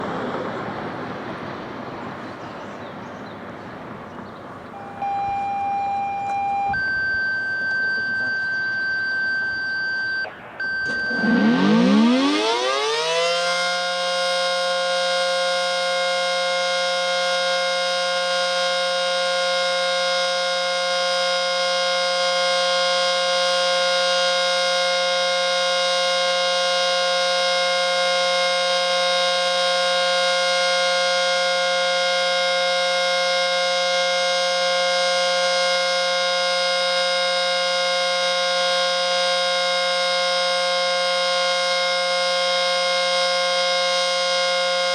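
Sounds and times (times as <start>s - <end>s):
warning siren winding up: 4.7s - 44.9s.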